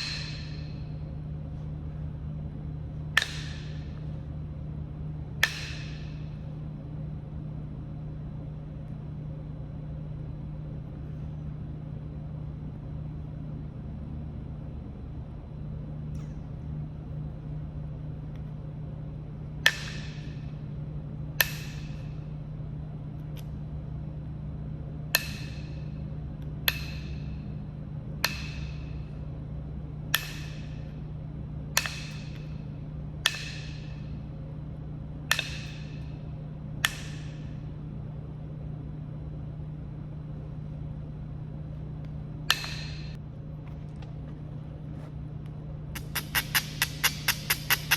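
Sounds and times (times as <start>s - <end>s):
low hum: 0.0s - 47.9s.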